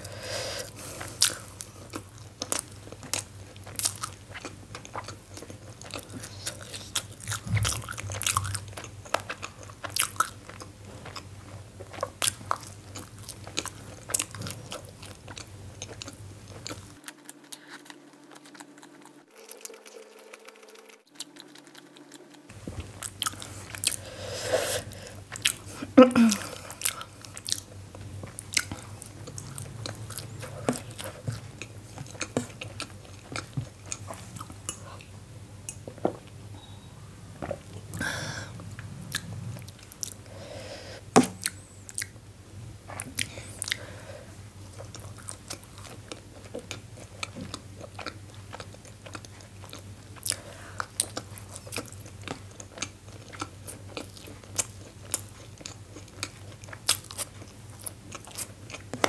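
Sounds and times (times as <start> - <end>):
chewing and biting dumplings: 0.7 - 35.9, 44.5 - 59.0.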